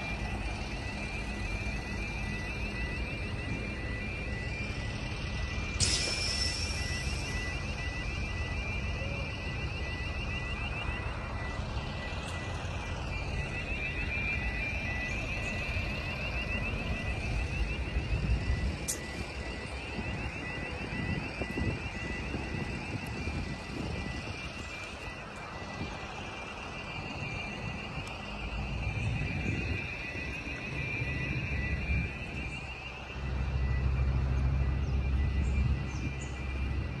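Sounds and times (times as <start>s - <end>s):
locomotive idling: 0.0s - 37.0s
machinery whine and buzz: 0.0s - 37.0s.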